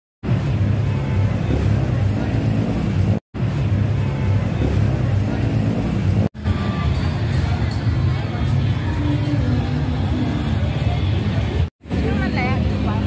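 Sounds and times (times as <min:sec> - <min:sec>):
traffic engines rumbling: 0:00.2 - 0:13.0.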